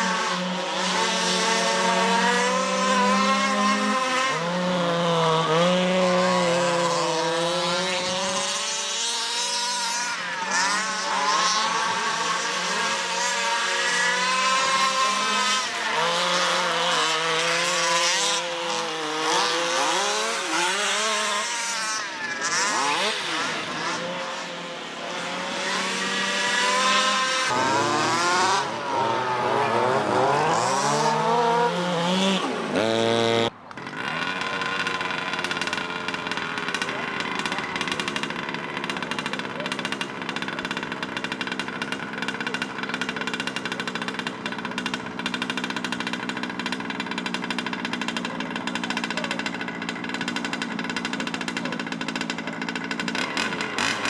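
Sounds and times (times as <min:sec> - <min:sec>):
small petrol engines revving: 0:00.0 - 0:54.0.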